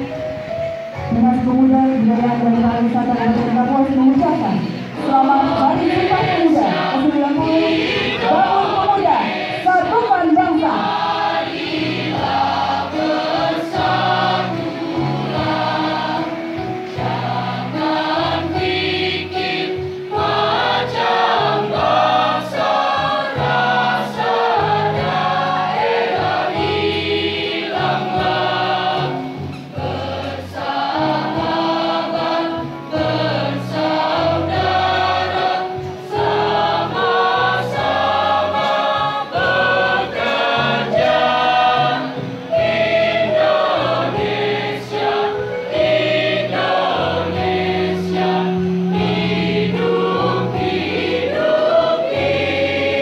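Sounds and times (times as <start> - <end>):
choir singing through pa system: 0.0 - 53.0.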